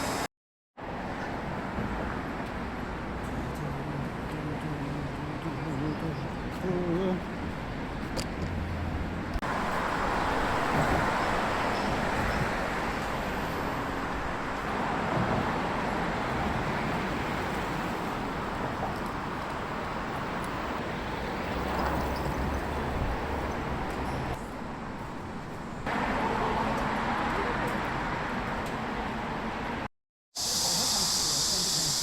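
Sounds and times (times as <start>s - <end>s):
passing vehicles: 0.0s - 29.9s
deep traffic rumble: 0.8s - 29.9s.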